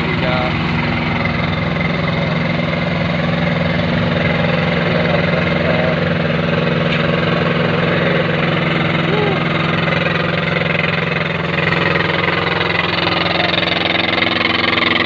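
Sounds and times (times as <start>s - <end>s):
machine engine droning: 0.0s - 15.0s.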